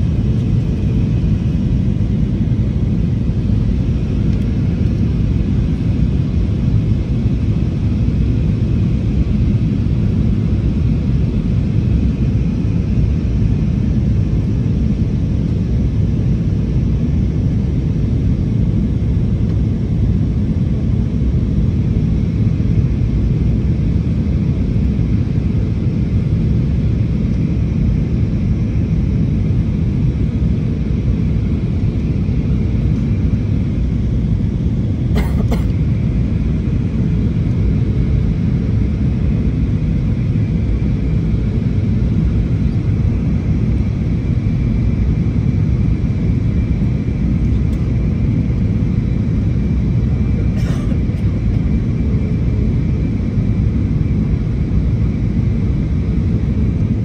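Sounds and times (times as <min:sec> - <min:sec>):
faint steady whine: 0:00.0 - 0:57.0
jet cabin engine rumble: 0:00.0 - 0:57.0.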